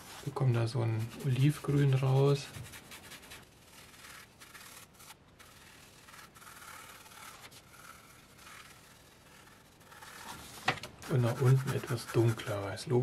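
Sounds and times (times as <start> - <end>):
brush scrubbing paint on canvas: 0.0 - 13.0.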